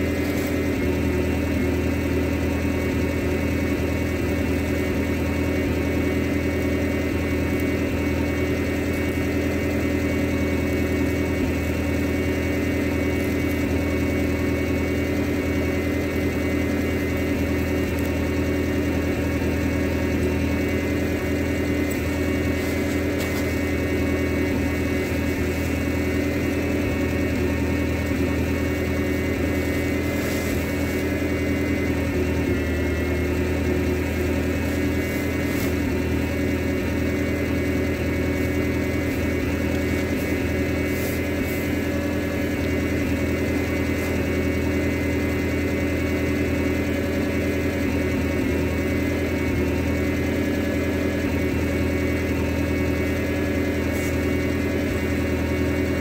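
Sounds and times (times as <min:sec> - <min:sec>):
skid steer engine idling: 0:00.0 - 0:56.0.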